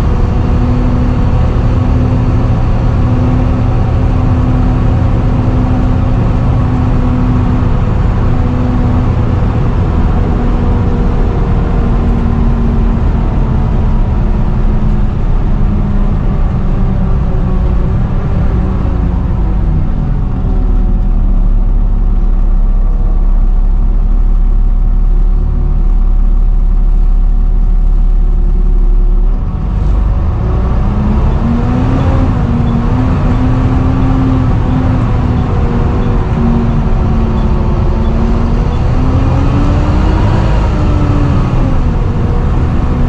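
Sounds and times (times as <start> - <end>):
bus engine drone: 0.0 - 43.0
bus whine: 0.0 - 43.0.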